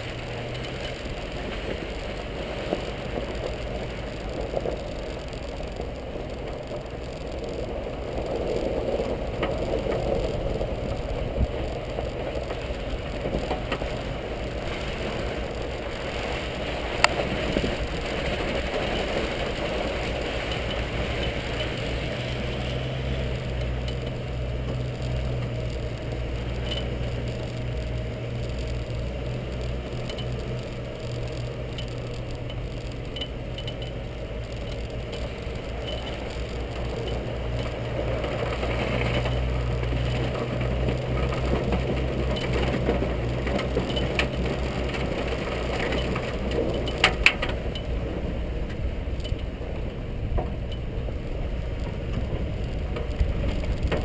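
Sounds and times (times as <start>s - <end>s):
small vehicle engine running: 0.0s - 54.0s
tyres on rough gravel: 0.0s - 54.0s
vehicle frame rattling: 0.0s - 54.0s.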